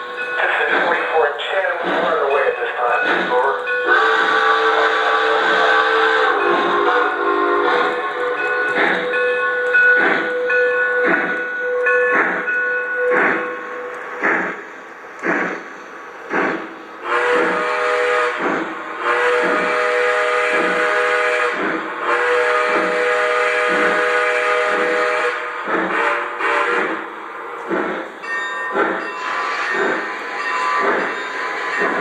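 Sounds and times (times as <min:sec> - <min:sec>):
model steam locomotive chuffs: 0:00.0 - 0:32.0.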